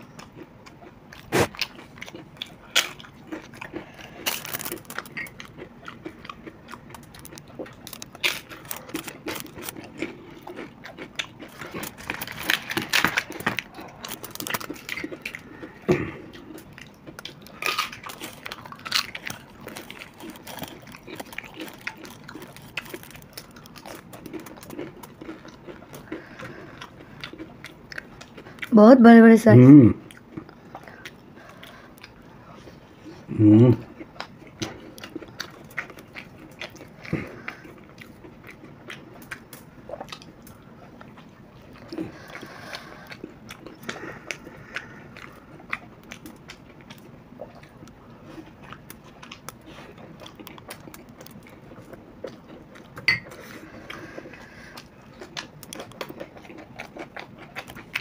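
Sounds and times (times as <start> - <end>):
crunching and chewing: 0.0 - 28.8, 30.0 - 58.0.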